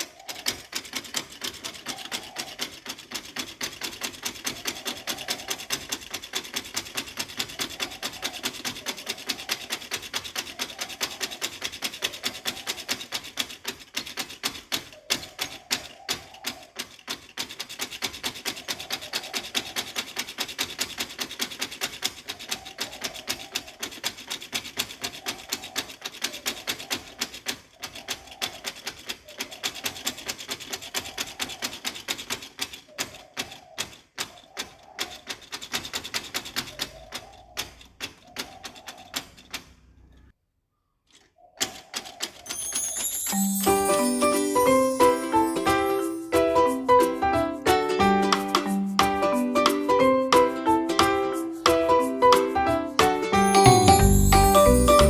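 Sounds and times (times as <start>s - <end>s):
rapid scraping clicks of hand tool: 0.0s - 40.3s, 41.1s - 53.4s.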